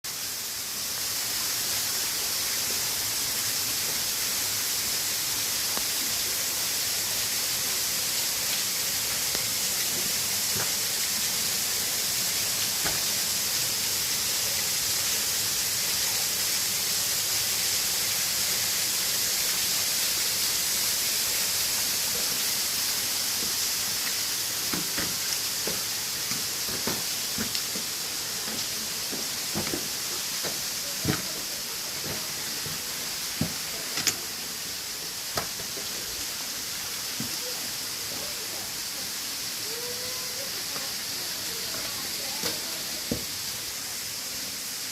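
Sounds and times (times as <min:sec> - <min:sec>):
waterfall rushing: 0:00.1 - 0:44.9.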